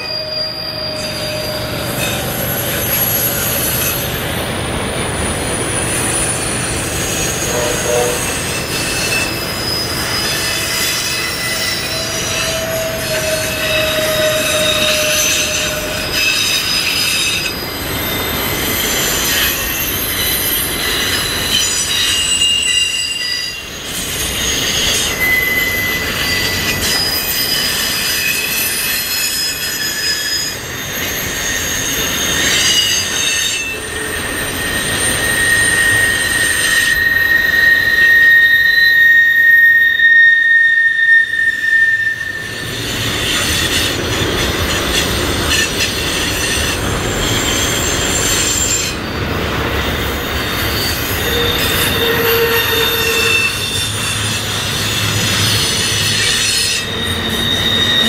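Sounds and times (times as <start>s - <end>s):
steel wheels squealing: 0.0s - 58.0s
train wheels rumbling on rails: 0.0s - 58.0s.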